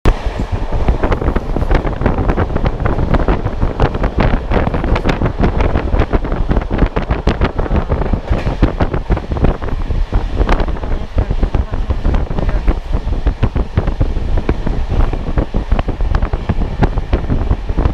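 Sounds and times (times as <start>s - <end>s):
deep train rumble: 0.0s - 17.9s
gusty wind buffeting microphone: 0.0s - 17.9s.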